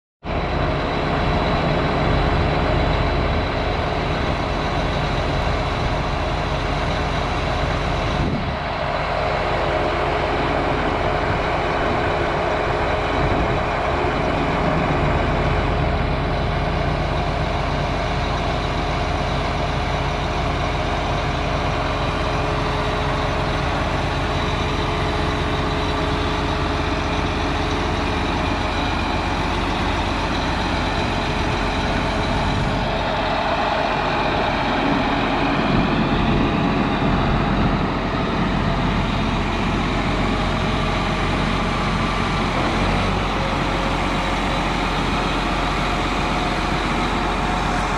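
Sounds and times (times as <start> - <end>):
tractor diesel engine idling: 0.2 - 47.9.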